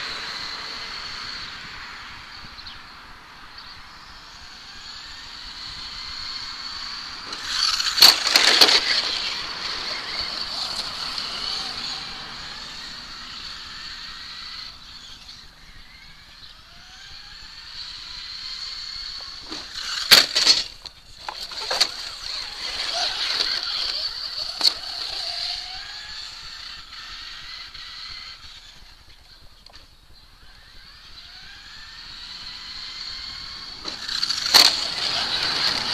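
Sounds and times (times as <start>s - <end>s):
toy truck motor whining: 0.0s - 2.4s, 4.0s - 35.9s.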